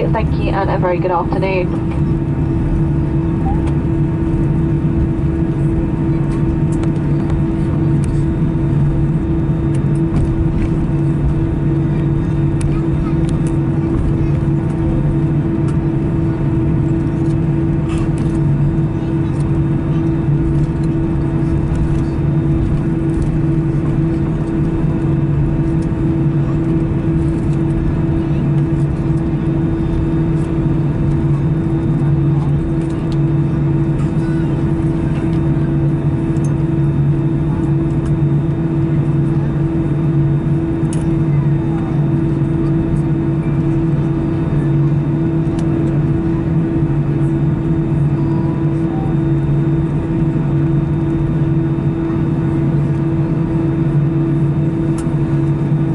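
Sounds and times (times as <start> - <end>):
air conditioning running: 0.0 - 55.9
aircraft engines idling: 0.0 - 55.9
low hums: 0.0 - 55.9.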